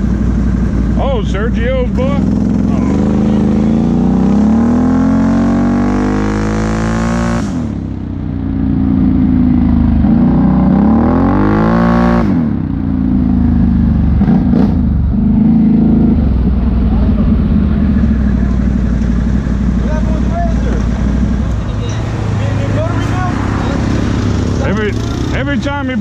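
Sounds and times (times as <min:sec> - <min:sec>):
quad bike engine accelerating: 0:00.0 - 0:26.0.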